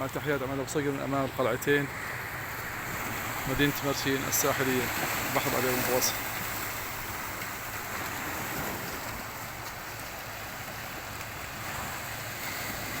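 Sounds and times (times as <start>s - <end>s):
sea waves washing on shore: 0.0s - 13.0s
wind rumbling on microphone: 0.0s - 13.0s.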